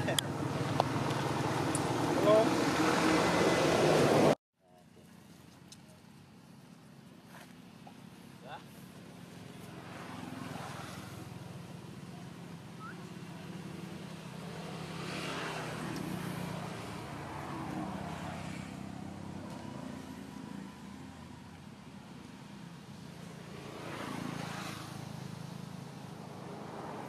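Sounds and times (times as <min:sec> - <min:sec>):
passing road vehicles: 0:00.0 - 0:27.0.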